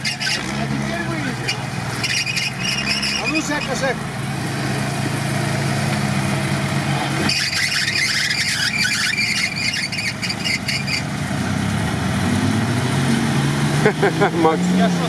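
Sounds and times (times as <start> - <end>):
engine running low: 0.0 - 15.0.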